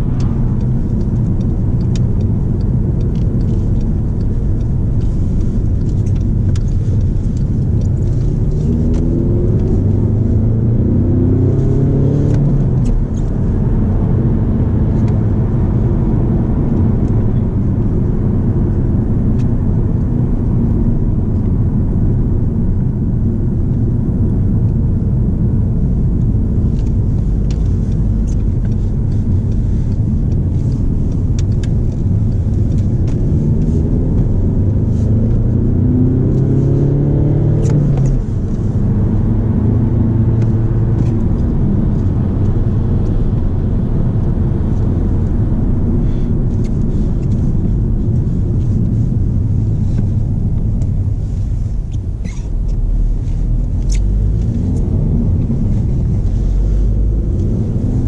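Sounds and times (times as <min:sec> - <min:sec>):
car engine accelerating: 0:00.0 - 0:58.0
road rumble: 0:00.0 - 0:58.0.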